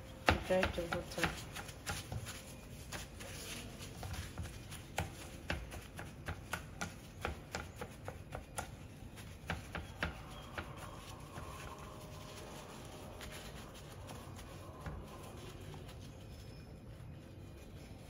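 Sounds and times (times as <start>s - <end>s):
paper towel rustling: 0.5s - 18.0s.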